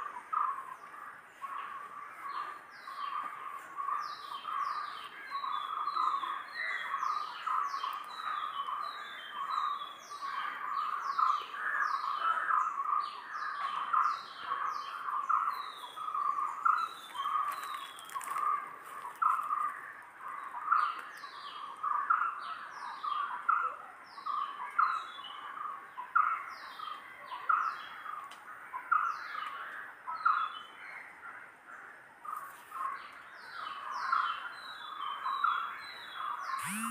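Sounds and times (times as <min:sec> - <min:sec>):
birds chirping and singing: 0:00.0 - 0:36.9.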